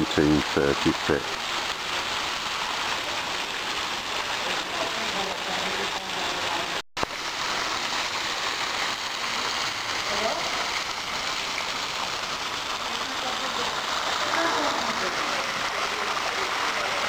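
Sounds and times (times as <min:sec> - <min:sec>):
water splashing into a pool: 0:00.0 - 0:17.0.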